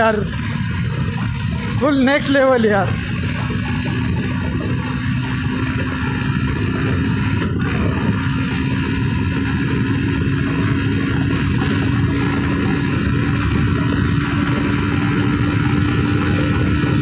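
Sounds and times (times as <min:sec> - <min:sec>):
motorcycle engine droning: 0:00.0 - 0:17.0
wind and road noise: 0:00.0 - 0:17.0.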